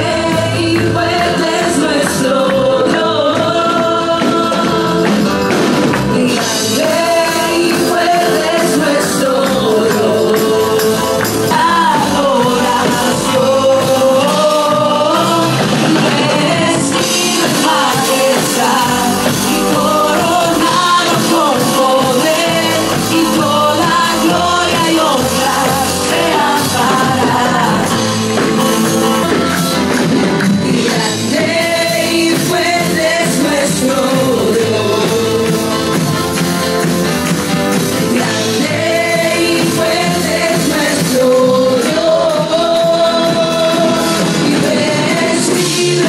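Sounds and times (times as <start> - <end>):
worship band playing: 0.0 - 46.0.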